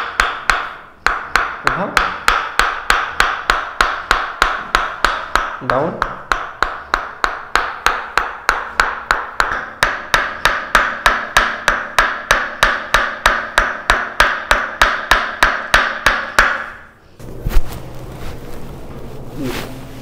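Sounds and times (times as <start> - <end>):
wooden mallet knocking on wooden rod: 0.0 - 16.9.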